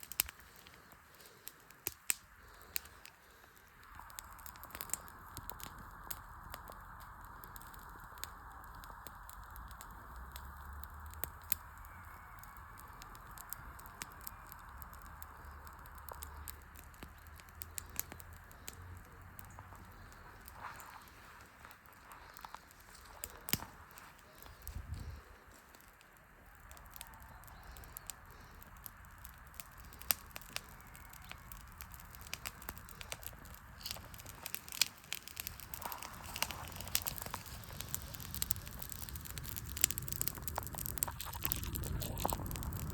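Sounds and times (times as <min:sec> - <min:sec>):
fire snaps and pops: 0:00.0 - 0:42.9
wood fire crackling: 0:00.0 - 0:42.9.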